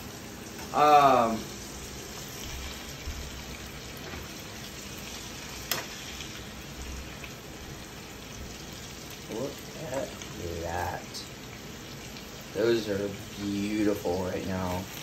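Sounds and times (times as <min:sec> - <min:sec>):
chicken sizzling in frying pan: 0:00.0 - 0:15.0.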